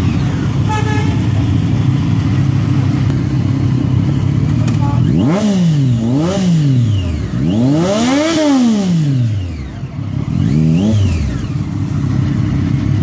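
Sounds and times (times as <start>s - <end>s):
motorcycle engine revving: 0.0s - 13.0s
motorcycles idling: 0.0s - 13.0s.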